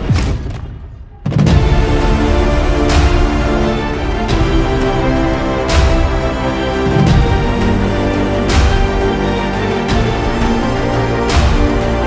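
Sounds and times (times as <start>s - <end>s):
background music with steady beat: 1.5s - 12.0s.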